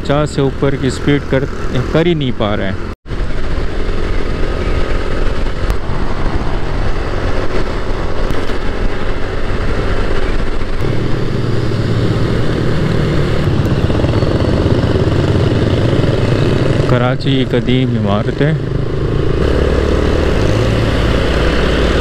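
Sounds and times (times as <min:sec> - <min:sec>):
motorcycle engine: 0:00.0 - 0:22.0
wind and road noise: 0:00.0 - 0:22.0.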